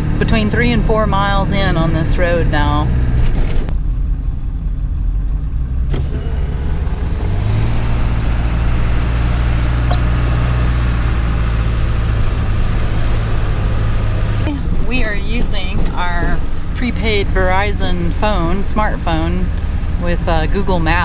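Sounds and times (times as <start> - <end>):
truck engine rumble: 0.0 - 21.0
tyres on dirt road: 0.0 - 21.0.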